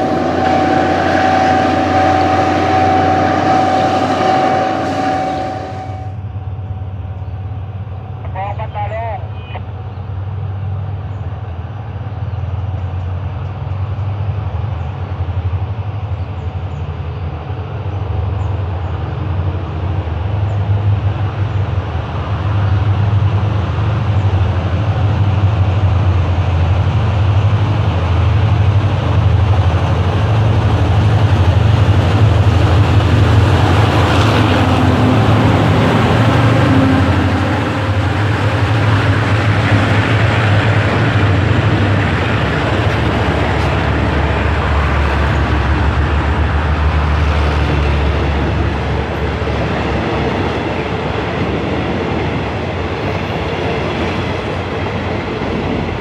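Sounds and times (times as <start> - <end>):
train wheels rumbling on rails: 0.0 - 8.2, 9.7 - 56.0
diesel locomotive engine drone: 0.0 - 56.0.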